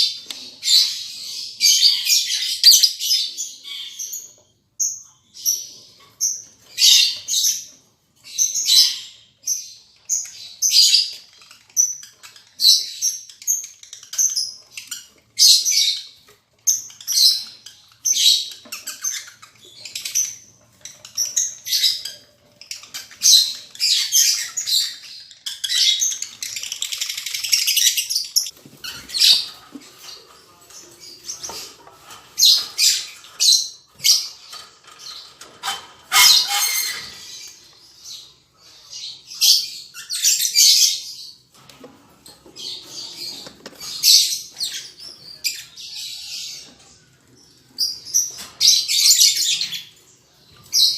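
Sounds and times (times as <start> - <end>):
lovebirds chirping and squawking: 0.0 - 50.9.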